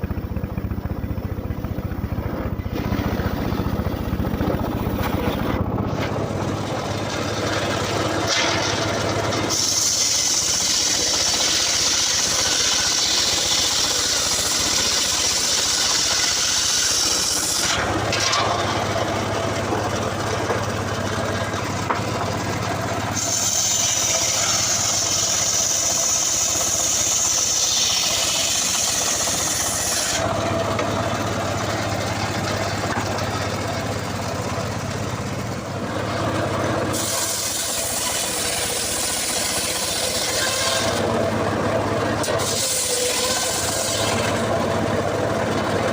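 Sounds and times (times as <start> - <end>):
engine humming: 0.0 - 45.9
circular saw cutting log: 1.4 - 45.9.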